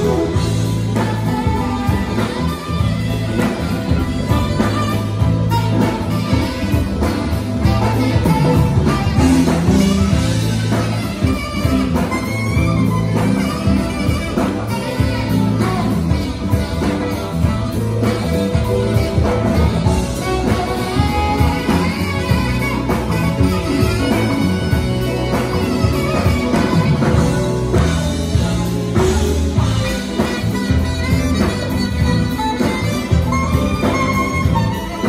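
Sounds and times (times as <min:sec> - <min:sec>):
live jazz band playing: 0:00.0 - 0:35.0.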